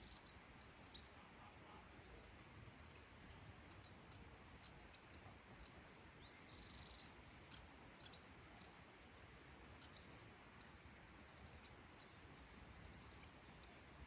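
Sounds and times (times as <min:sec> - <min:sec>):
faint ticks: 0:00.0 - 0:01.9, 0:02.7 - 0:14.0
distant insects hissing: 0:00.0 - 0:14.0.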